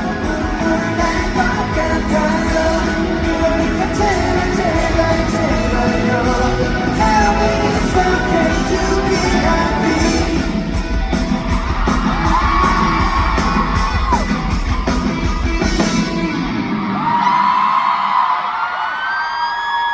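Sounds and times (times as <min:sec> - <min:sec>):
live rock band playing: 0:00.0 - 0:17.6
audience screaming: 0:00.0 - 0:19.9.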